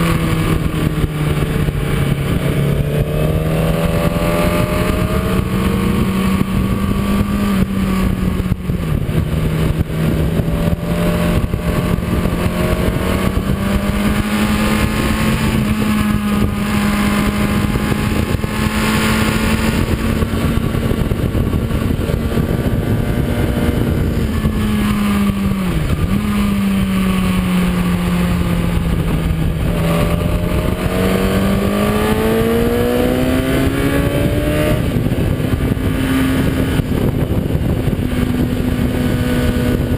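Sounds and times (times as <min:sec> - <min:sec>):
motorcycle engine at speed: 0:00.0 - 0:39.9
wind rush: 0:00.0 - 0:39.9.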